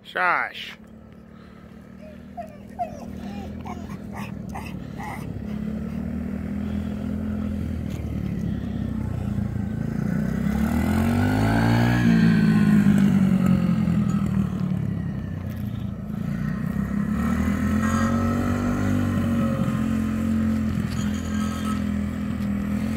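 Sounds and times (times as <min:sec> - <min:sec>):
dirt bike engine revving: 0:01.3 - 0:14.7, 0:15.7 - 0:22.9.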